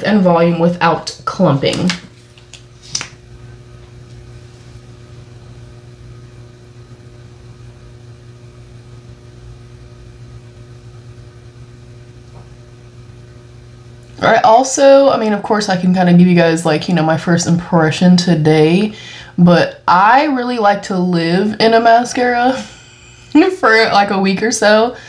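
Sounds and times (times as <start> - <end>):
low mechanical room hum: 0.0 - 25.0.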